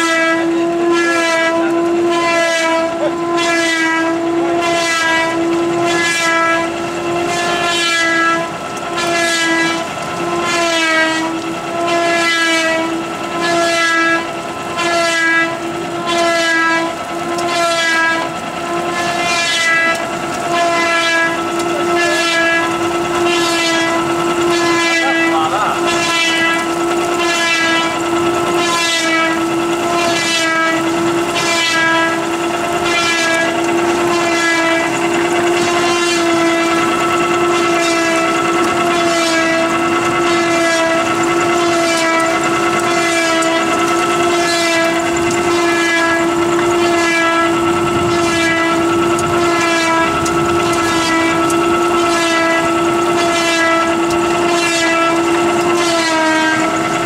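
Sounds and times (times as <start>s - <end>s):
machine rollers whining: 0.0s - 57.0s.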